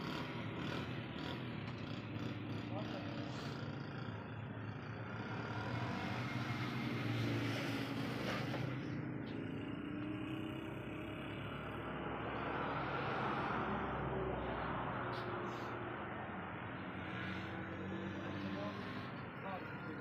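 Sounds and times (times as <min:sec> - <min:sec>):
engine humming steadily: 0:00.0 - 0:20.0.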